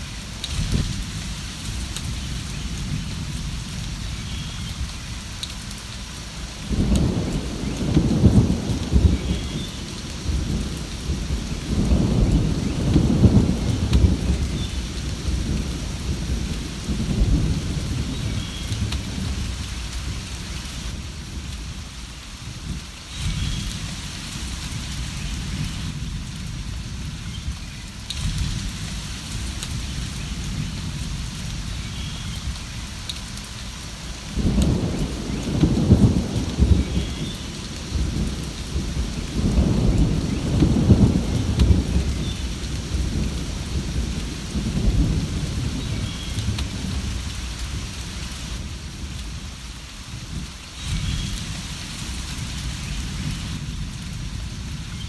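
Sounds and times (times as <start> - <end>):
low rumble of thunder: 0.0 - 55.0
steady rain falling: 0.0 - 55.0.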